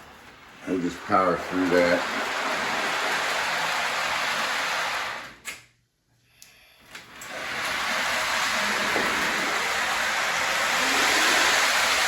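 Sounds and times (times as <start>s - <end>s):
model train whirring: 0.0s - 5.4s, 7.0s - 12.0s.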